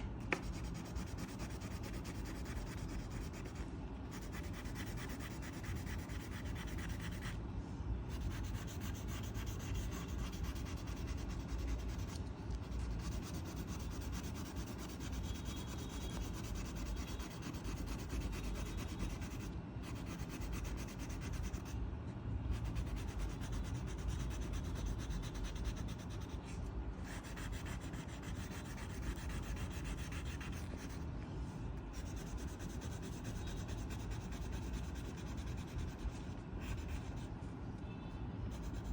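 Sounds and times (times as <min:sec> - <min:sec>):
coloring tool scratching on paper: 0:00.3 - 0:07.4, 0:08.1 - 0:21.8, 0:22.5 - 0:31.0, 0:31.9 - 0:37.3, 0:38.5 - 0:38.9.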